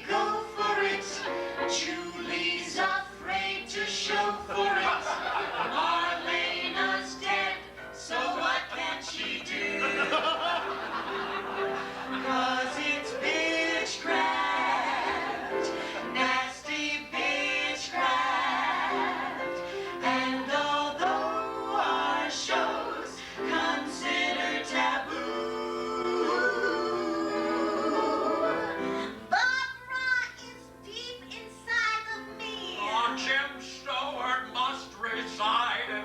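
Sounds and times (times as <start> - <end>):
piano accompaniment: 0.0 - 29.3.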